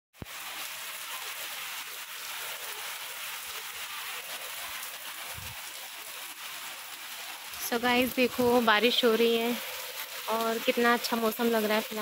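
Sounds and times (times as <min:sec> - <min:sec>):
heavy rain falling: 0:00.2 - 0:12.0.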